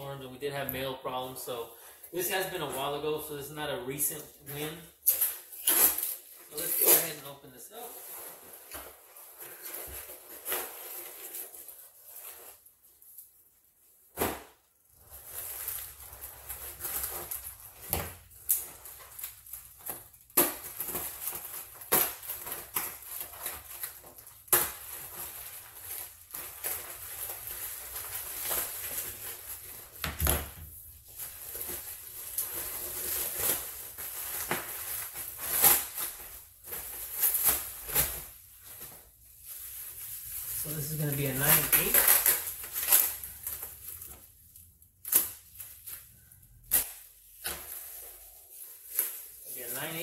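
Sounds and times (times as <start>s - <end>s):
bubble wrap crinkling and crackling: 1.8s - 50.0s.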